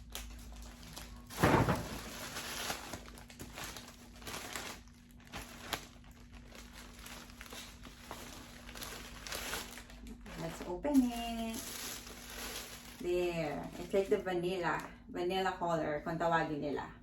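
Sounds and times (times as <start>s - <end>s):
packaging rustling and crinkling: 0.0s - 14.2s.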